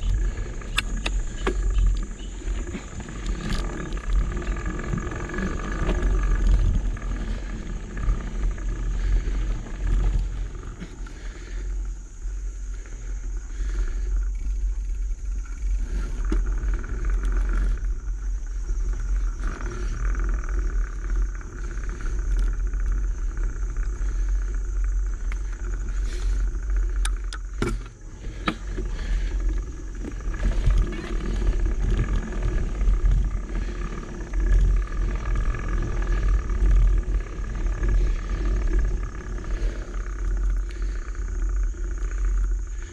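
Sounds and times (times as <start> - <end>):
bike rattling over ground: 0.0 - 42.9
wind rumble: 0.0 - 42.9.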